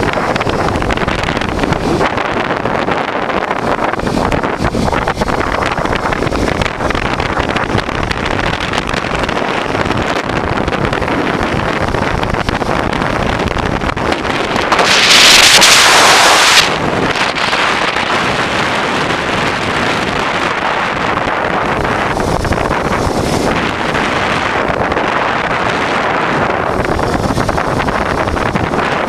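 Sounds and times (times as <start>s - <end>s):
loud rush of noise: 0.0s - 29.0s
motorcycle engine running: 0.0s - 29.0s
wind buffeting microphone: 0.0s - 29.0s.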